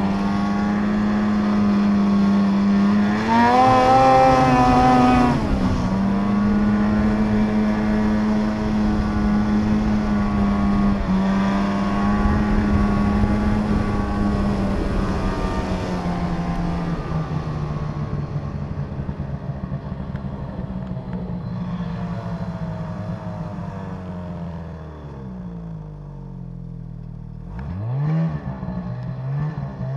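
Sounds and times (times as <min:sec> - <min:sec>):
snowmobile engine running: 0:00.0 - 0:27.4.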